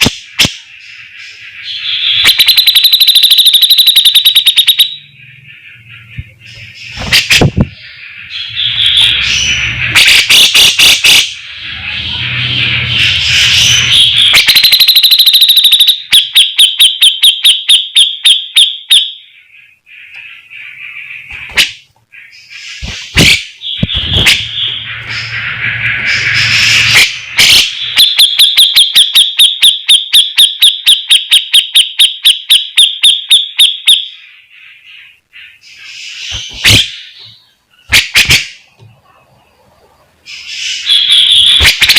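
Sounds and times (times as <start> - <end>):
bird singing rapid repeated notes: 0.0 - 41.9.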